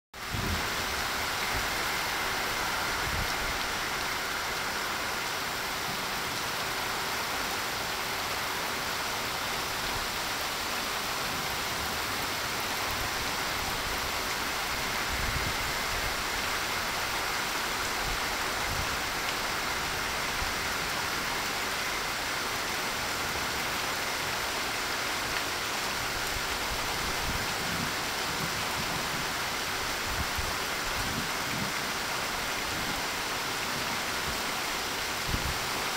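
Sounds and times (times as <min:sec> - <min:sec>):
heavy rain pouring: 0:00.2 - 0:35.9.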